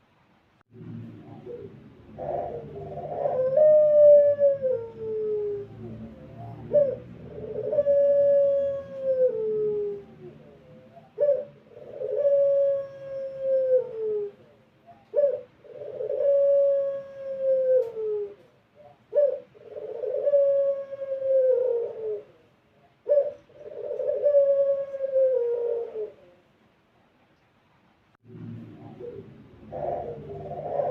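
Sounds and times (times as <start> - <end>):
dove cooing: 0.8 - 26.6, 28.4 - 30.9.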